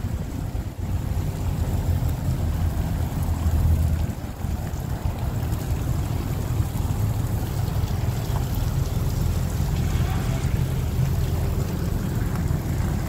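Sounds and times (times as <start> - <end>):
boat engines rumbling: 0.0 - 13.0.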